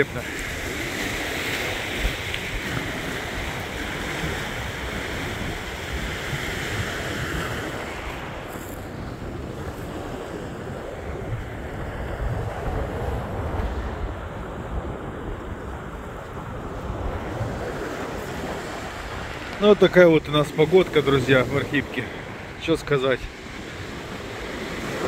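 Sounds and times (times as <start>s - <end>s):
surf washing onto pebble beach: 0.0s - 25.0s
wind buffeting microphone: 0.0s - 25.0s.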